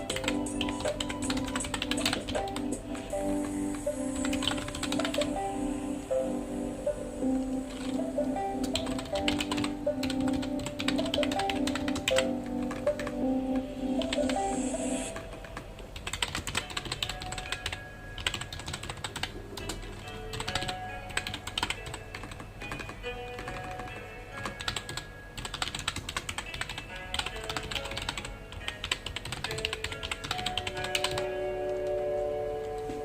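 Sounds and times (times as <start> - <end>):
computer keyboard typing: 0.0 - 5.9, 6.9 - 32.0
soft background music: 0.0 - 33.0.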